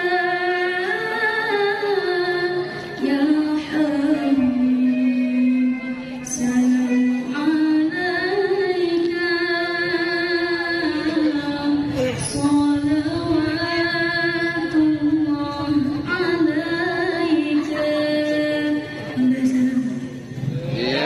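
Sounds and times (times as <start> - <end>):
woman reciting melodically: 0.0 - 20.4.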